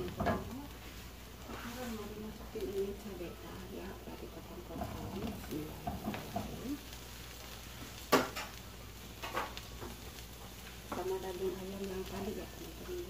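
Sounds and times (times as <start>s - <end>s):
chilies sizzling in a frying pan: 0.0s - 13.0s.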